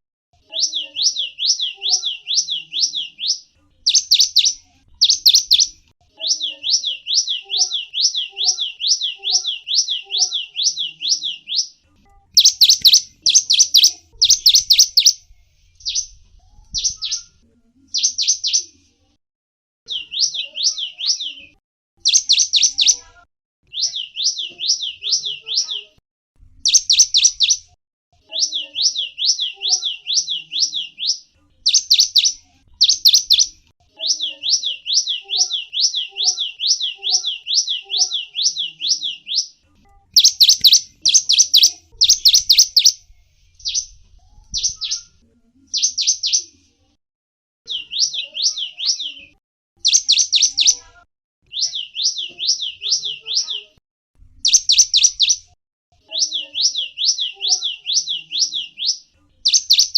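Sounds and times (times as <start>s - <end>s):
songbird chirping: 0.4s - 18.9s, 19.9s - 26.0s, 26.6s - 46.7s, 47.7s - 53.8s, 54.4s - 59.9s.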